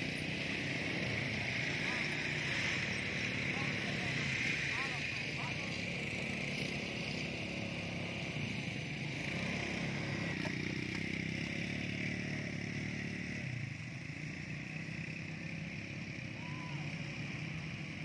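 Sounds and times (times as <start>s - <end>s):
quad bike engines running: 0.0s - 18.0s.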